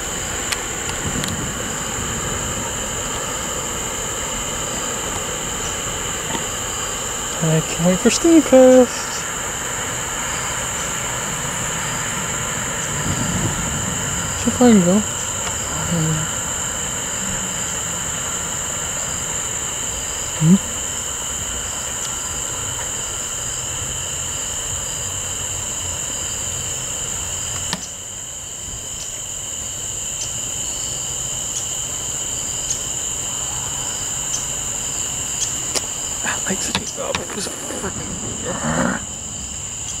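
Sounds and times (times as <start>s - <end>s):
diesel locomotive rumbling: 0.0s - 27.5s, 32.9s - 40.0s
crickets and insects chirping: 0.0s - 40.0s.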